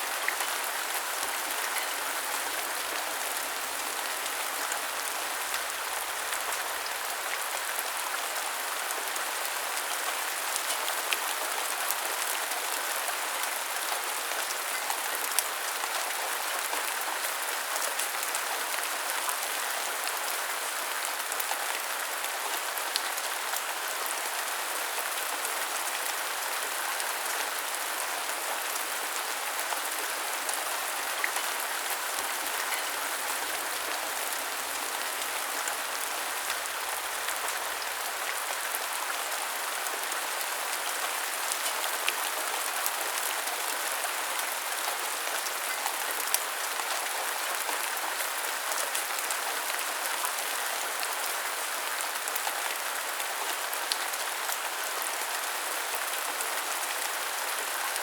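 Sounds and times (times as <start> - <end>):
rain on hard surfaces: 0.0 - 58.0.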